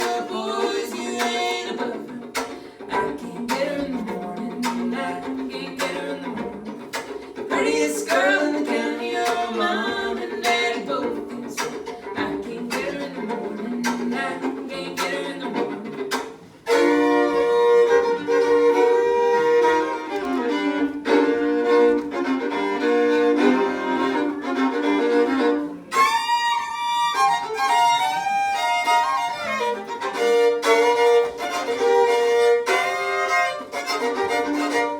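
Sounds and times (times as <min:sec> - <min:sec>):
fiddles playing a tune: 0:00.0 - 0:34.9
scratchy fiddle chops: 0:00.0 - 0:34.9.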